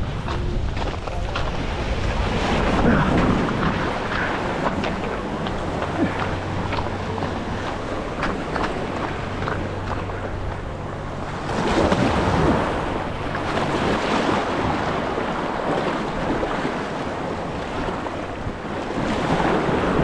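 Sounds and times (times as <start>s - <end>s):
surf washing against rocks: 0.0s - 20.0s
wind buffeting microphone: 0.0s - 20.0s.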